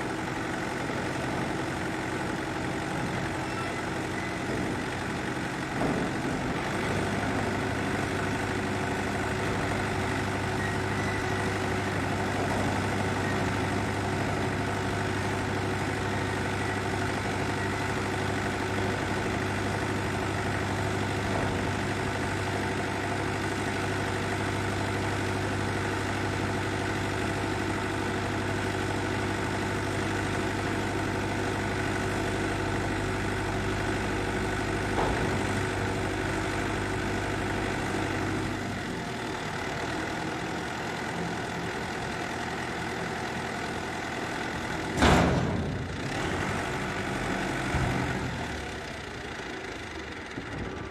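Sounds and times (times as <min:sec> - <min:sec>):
tractor diesel engine idling: 0:00.0 - 0:50.9.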